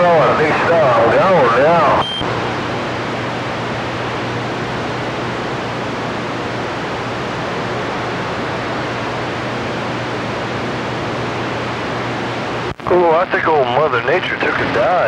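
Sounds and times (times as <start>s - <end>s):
low steady hum: 0.0s - 15.0s
radio static hiss: 0.0s - 15.0s.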